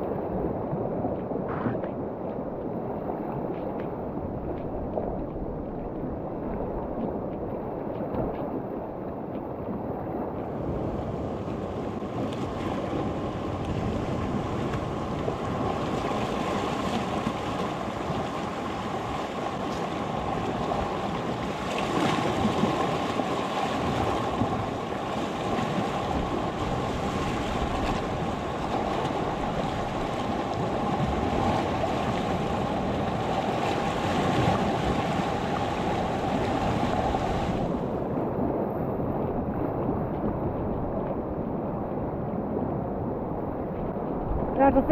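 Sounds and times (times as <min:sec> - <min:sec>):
sea waves washing on shore: 0:00.0 - 0:44.9
wind noise on microphone: 0:00.0 - 0:44.9.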